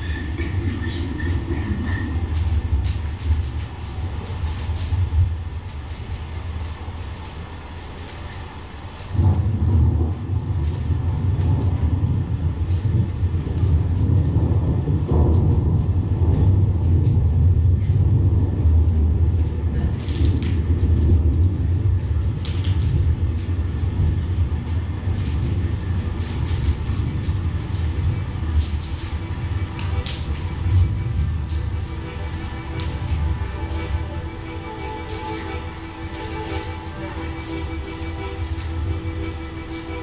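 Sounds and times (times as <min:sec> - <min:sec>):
deep rumbling soundscape: 0:00.0 - 0:07.9, 0:08.6 - 0:40.0
faint crackles: 0:00.0 - 0:40.0.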